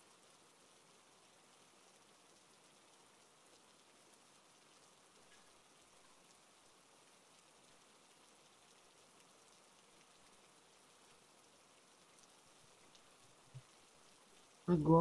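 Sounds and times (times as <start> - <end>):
faint steady hiss with crackle: 0.0 - 15.0.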